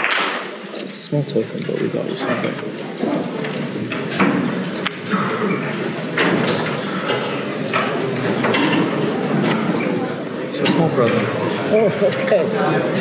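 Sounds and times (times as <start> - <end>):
audience murmuring: 0.0 - 13.0.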